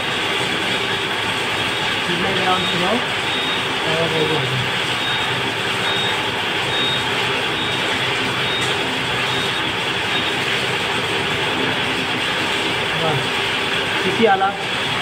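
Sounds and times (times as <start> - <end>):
workshop machinery running: 0.0 - 15.0.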